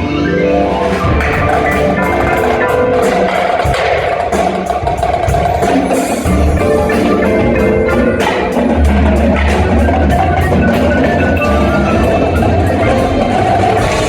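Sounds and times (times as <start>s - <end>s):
sharp percussion strokes: 0.0s - 14.0s
wind ensemble chords: 0.0s - 14.0s.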